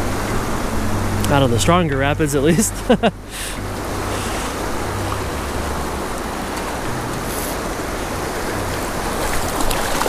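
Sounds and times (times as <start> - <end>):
river rapids rushing over rocks: 0.0 - 10.0.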